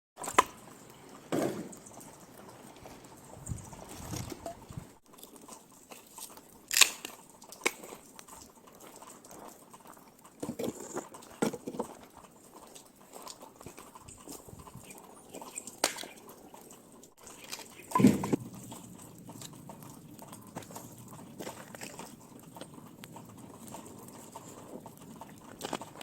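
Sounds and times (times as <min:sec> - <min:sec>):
cat chewing with crunches: 0:05.0 - 0:26.0.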